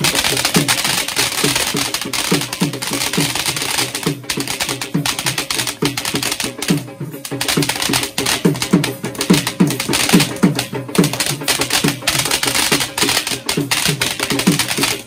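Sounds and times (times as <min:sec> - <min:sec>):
firework hissing and crackling: 0:00.0 - 0:15.0
music with steady drum beat: 0:00.0 - 0:15.0.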